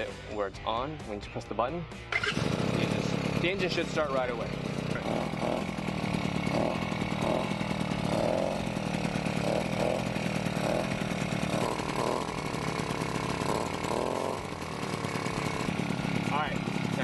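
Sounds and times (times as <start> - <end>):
two-stroke engine running: 2.0 - 17.0.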